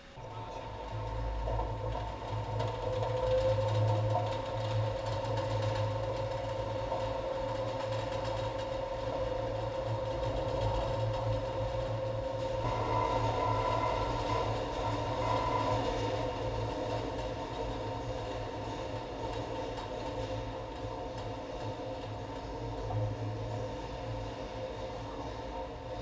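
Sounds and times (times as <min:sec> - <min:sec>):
lift machinery motor hum and whine: 0:00.0 - 0:26.0.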